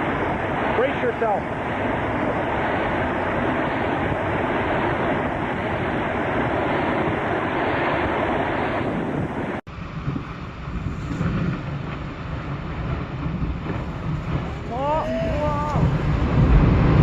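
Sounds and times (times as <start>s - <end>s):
low rumble of wind and water: 0.0s - 17.0s
wind and sea buffeting microphone: 0.0s - 17.0s.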